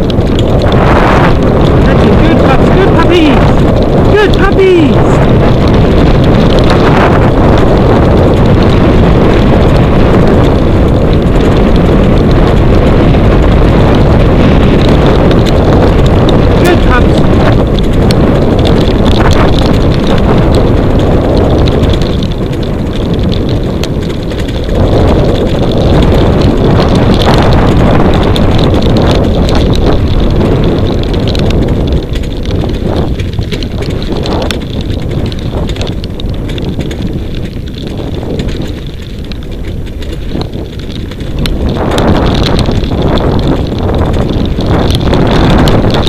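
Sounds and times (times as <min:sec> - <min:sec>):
rig rumbling and rattling: 0:00.0 - 0:46.0
wind buffeting microphone: 0:00.0 - 0:46.0.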